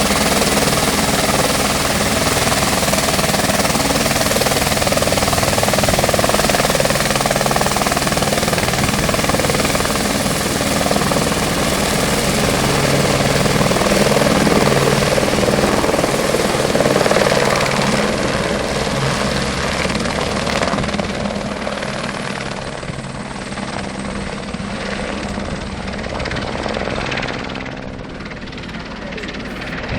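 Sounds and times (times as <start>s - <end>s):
helicopter rotor drone: 0.0s - 29.9s.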